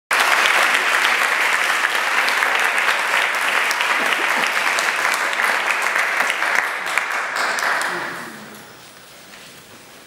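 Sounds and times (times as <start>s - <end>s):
audience applauding: 0.1s - 8.8s.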